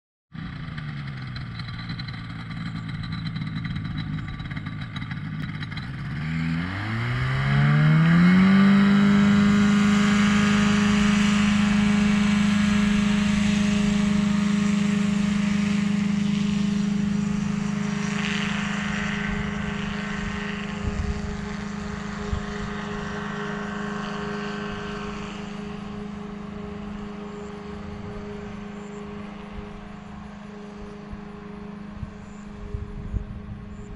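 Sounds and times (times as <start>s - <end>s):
small plane engine throttling up: 0.4s - 33.9s.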